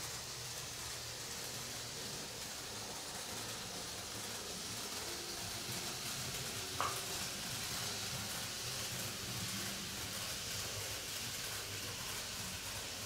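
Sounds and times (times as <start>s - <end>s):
model train motor whirring: 0.0s - 13.0s.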